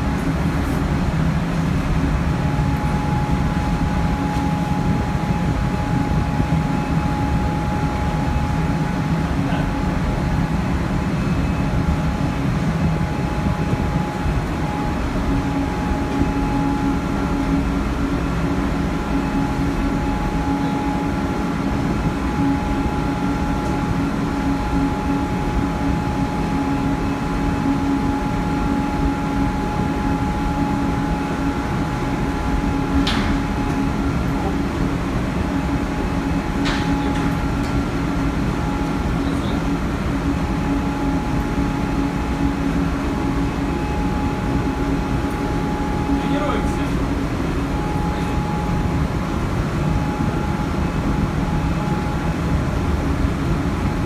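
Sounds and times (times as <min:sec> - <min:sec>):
humming tones: 0:00.0 - 0:54.0
ship machinery drone: 0:00.0 - 0:54.0.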